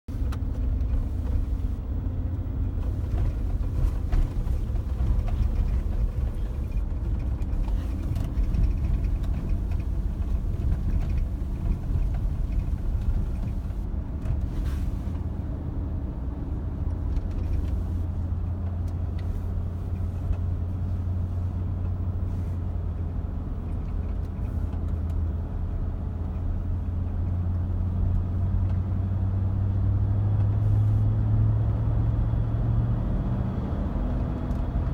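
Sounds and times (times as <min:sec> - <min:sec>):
car road and engine rumble: 0:00.0 - 0:34.9.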